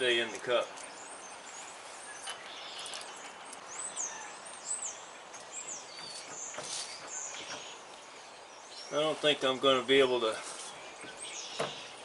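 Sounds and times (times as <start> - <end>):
small bird chirping: 0.2 - 9.2, 10.5 - 12.0.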